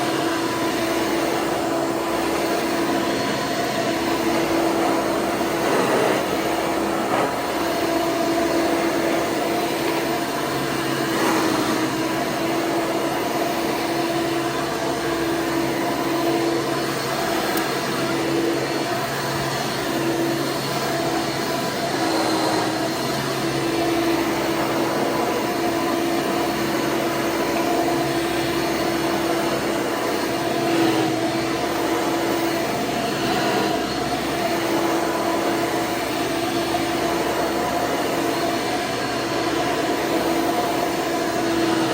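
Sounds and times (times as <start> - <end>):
upright vacuum motor whine: 0.0 - 41.9.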